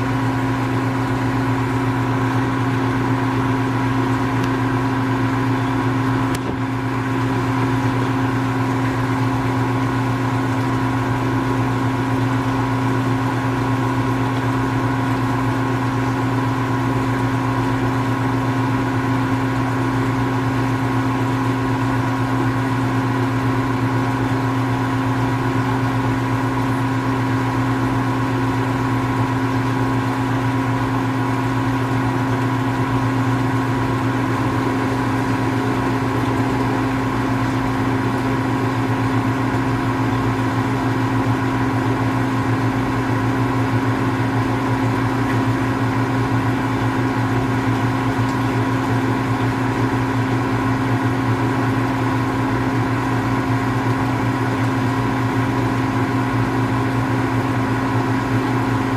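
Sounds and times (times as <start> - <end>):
steady mechanical hum: 0.0 - 58.9.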